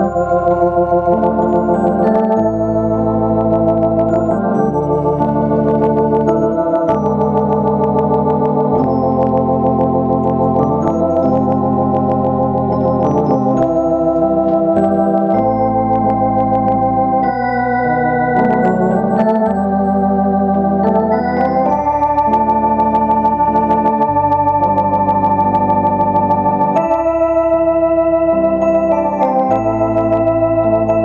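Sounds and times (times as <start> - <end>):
electronic organ chords: 0.0 - 31.0.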